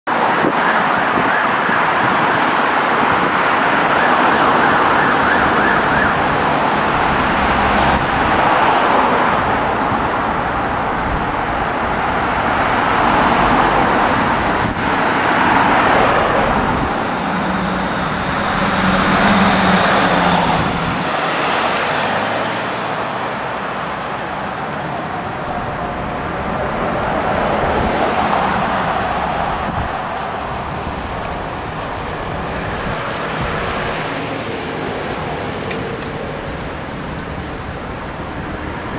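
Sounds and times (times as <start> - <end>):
passing road traffic: 0.1 - 38.9
emergency siren wailing: 0.2 - 35.0.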